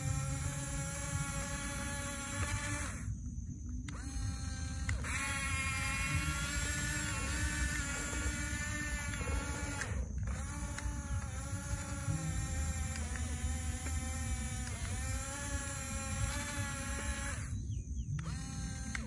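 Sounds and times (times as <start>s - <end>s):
steady low rumble: 0.0s - 19.0s
toy bulldozer motor whining: 0.0s - 19.0s.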